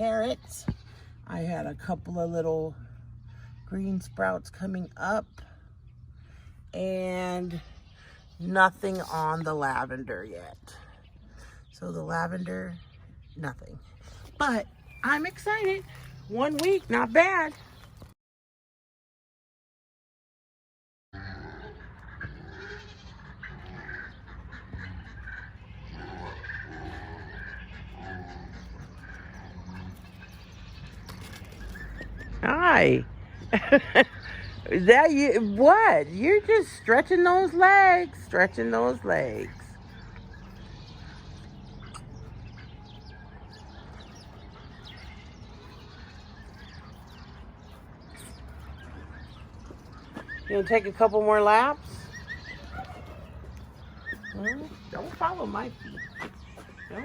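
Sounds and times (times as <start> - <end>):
farm animals calling: 0.0 - 17.9, 21.2 - 57.0
birds chirping: 0.0 - 18.2, 21.2 - 57.0.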